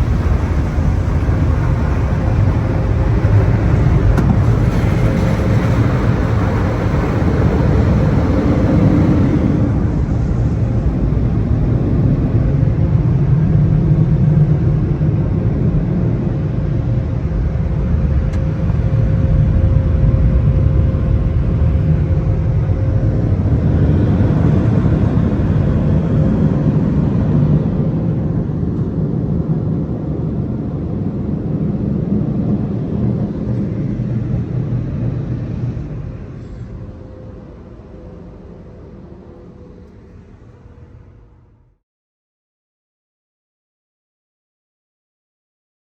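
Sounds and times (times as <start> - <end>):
car wash machinery rumbling: 0.0 - 41.6
faint constant hum: 0.0 - 41.8.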